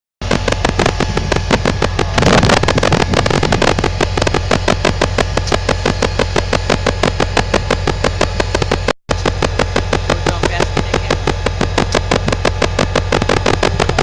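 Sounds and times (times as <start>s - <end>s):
diesel locomotive rumbling: 0.2s - 14.0s.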